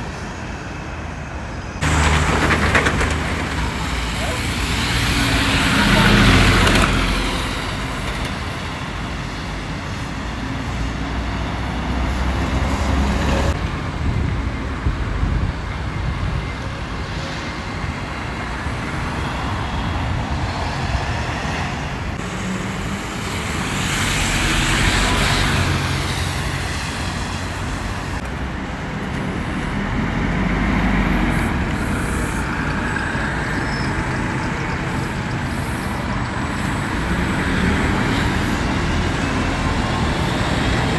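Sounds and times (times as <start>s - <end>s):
bus engines rumbling: 0.0s - 40.9s
tyre and road noise: 0.0s - 40.9s.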